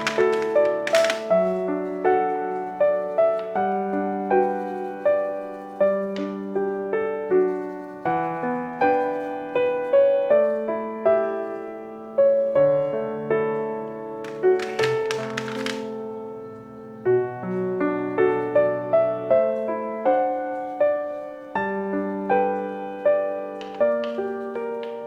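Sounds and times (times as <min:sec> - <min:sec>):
gentle solo piano music: 0:00.0 - 0:25.0.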